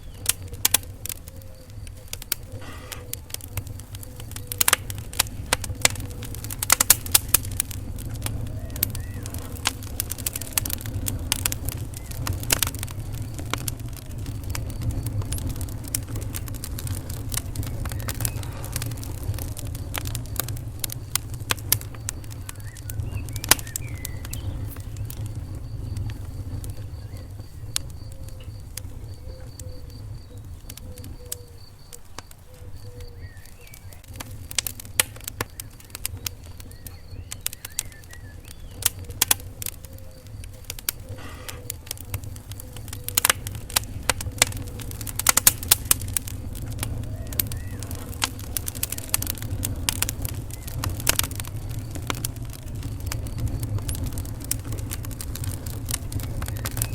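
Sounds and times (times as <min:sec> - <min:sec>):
fire crackling and popping: 0:00.0 - 0:56.9
low rumble of flame: 0:00.0 - 0:56.9.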